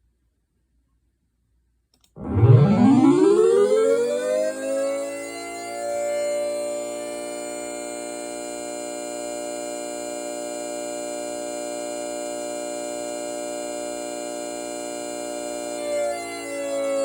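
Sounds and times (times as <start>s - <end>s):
siren holding a chord: 2.2s - 17.0s.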